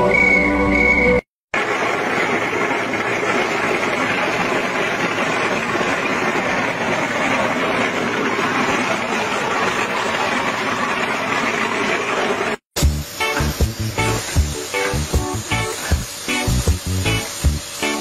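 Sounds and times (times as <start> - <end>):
walnut hulling machine running: 1.6 - 18.0.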